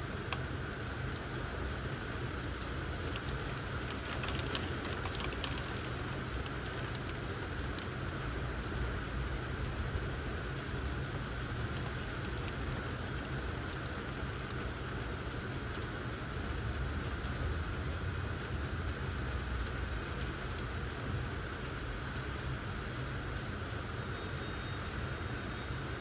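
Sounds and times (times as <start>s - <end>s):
faint raindrop ticks: 0.0s - 26.0s
rain hiss: 0.0s - 26.0s.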